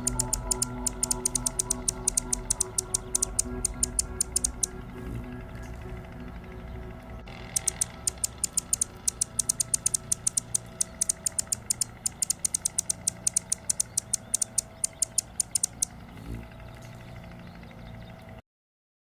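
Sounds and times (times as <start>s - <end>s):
bird chip notes: 0.0s - 18.0s
steady low hum: 0.0s - 18.4s.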